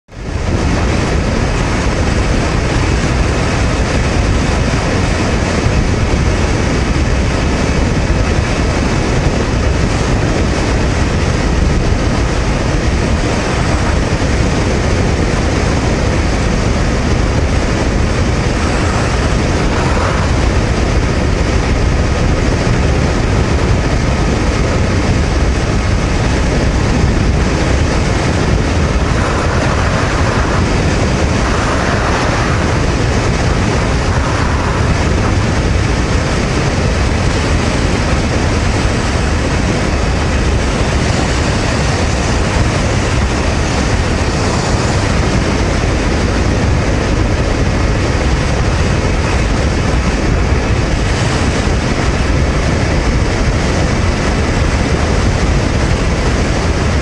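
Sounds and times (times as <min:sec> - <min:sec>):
wind and road noise: 0:00.0 - 0:57.0
motorcycle engine hum: 0:00.1 - 0:57.0.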